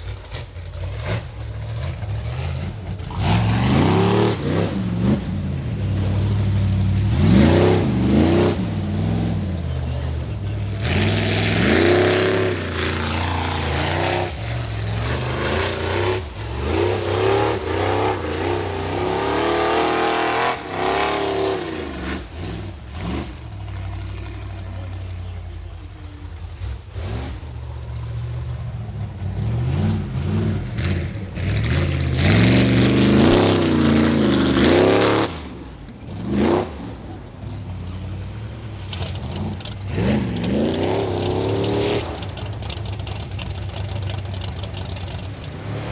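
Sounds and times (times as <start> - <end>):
buggy engine revving: 0.0 - 45.9.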